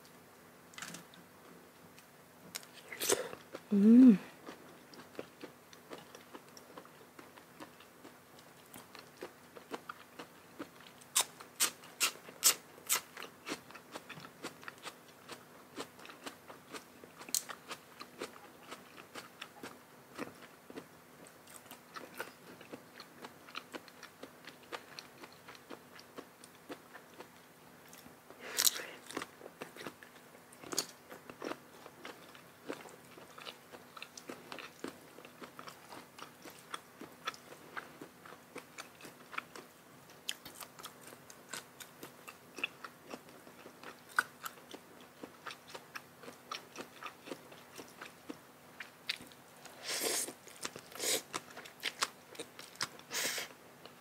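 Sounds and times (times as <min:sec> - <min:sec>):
person chewing and crunching: 0:02.5 - 0:54.0.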